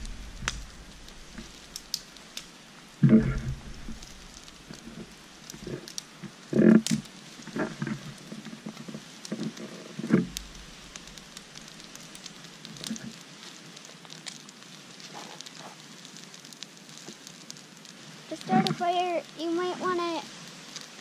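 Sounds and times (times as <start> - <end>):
fire crackling and snapping: 0.0 - 21.0.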